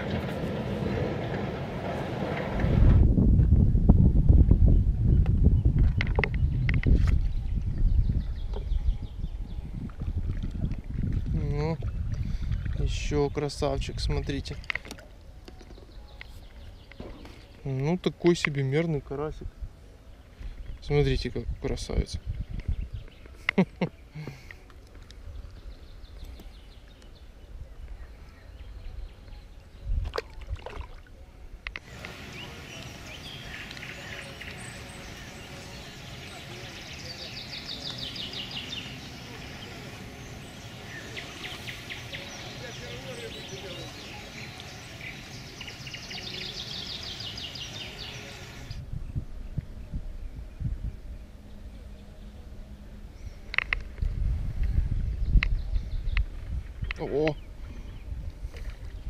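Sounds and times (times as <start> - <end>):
wind rumble on microphone: 0.0 - 18.0, 18.8 - 23.8, 25.0 - 59.0
songbirds chirping: 3.5 - 59.0.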